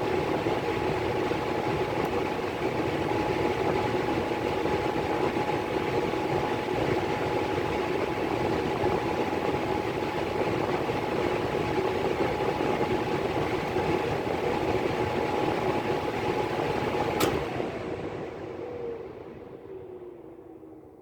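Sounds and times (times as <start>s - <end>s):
furnace blower rushing air: 0.0s - 20.9s.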